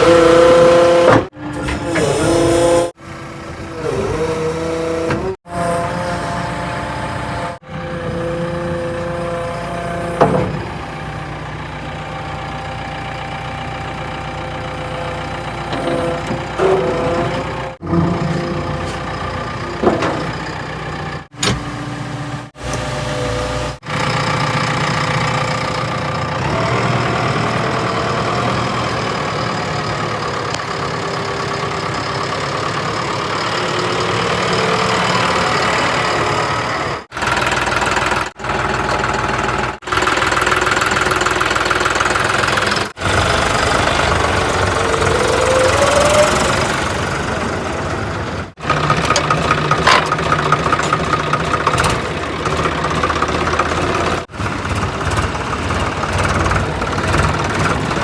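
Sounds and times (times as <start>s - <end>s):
diesel engines revving: 0.0s - 58.0s.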